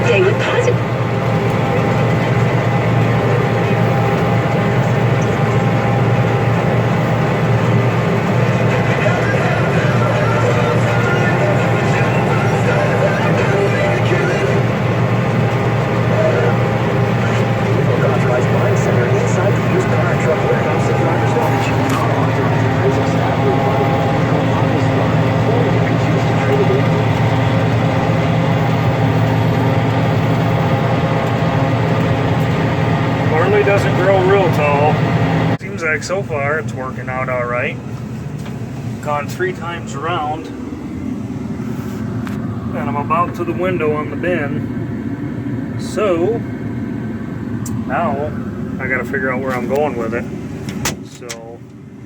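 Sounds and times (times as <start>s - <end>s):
combine harvester engine and threshing drone: 0.0s - 52.0s.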